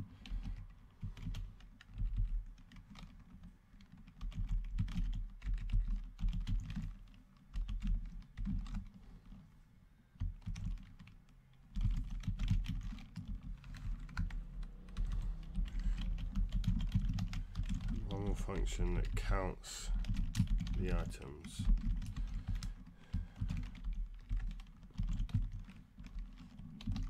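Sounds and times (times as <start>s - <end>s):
typing on computer keyboard: 0.0s - 9.4s, 10.2s - 27.0s.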